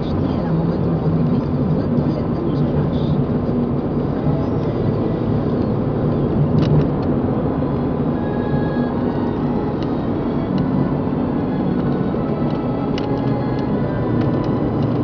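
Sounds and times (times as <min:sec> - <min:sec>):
car cabin road and engine noise: 0:00.0 - 0:15.0.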